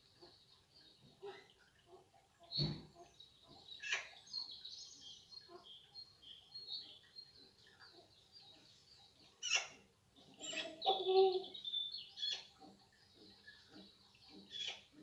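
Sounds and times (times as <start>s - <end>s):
small birds chirping: 0.0s - 15.0s
harsh bird calls: 1.1s - 7.1s, 7.7s - 15.0s.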